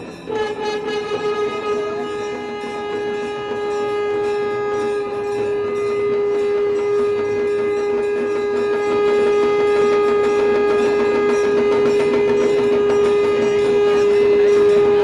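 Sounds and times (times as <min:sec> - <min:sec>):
conch shell blown: 0:00.0 - 0:15.0.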